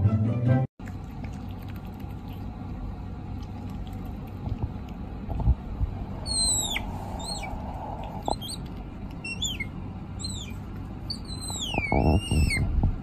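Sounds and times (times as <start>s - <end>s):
low rumbling background noise: 0.3s - 13.0s.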